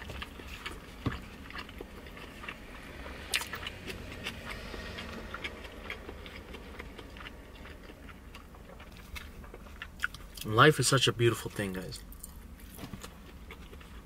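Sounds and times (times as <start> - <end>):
person chewing food: 0.0 - 10.5, 12.0 - 14.0.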